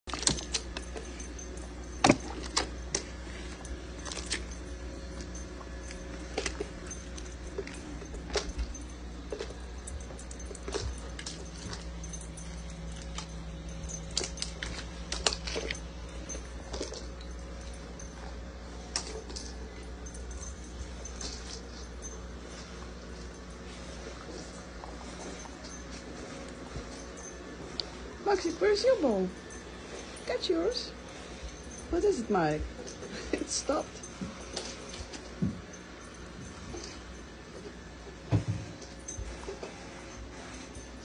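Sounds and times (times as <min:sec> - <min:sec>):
low hum: 0:00.0 - 0:41.0
dog eating from plastic bowl: 0:00.1 - 0:41.0.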